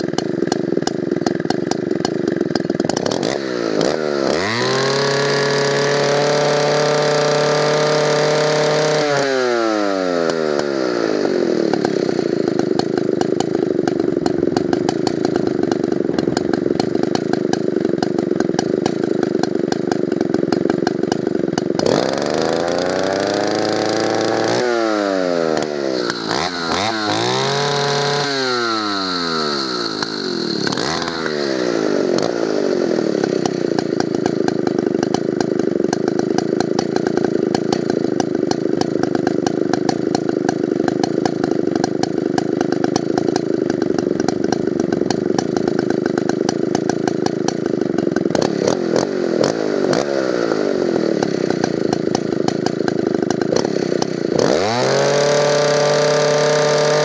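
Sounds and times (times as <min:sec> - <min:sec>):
chainsaw engine revving and idling: 0:00.0 - 0:57.0.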